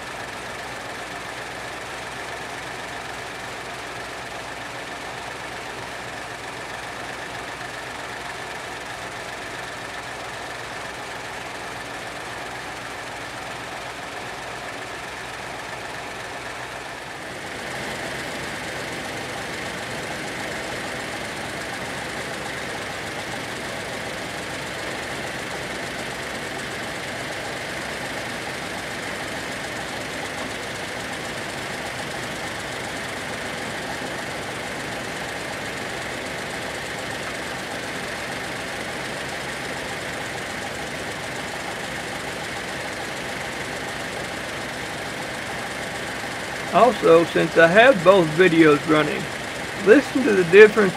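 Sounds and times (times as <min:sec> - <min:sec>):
pickup truck engine idling: 0:00.0 - 0:50.9.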